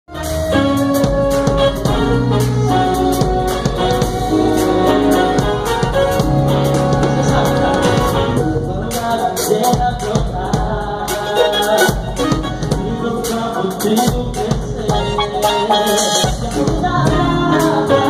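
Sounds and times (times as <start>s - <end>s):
electronic keyboard chords: 0.1s - 18.0s
steady drum beat: 0.1s - 18.0s.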